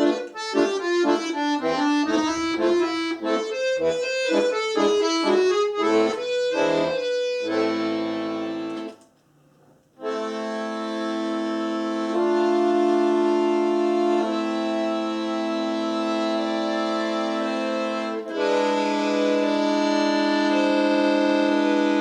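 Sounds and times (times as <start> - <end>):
solo accordion playing folk tune: 0.0 - 9.0, 10.0 - 22.0.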